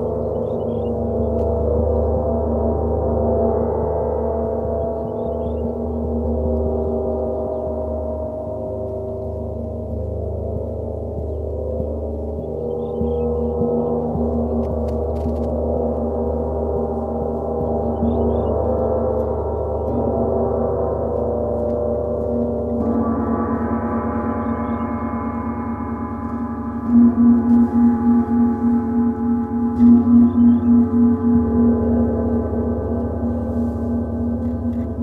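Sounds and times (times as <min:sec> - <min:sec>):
gongs ringing: 0:00.0 - 0:35.0.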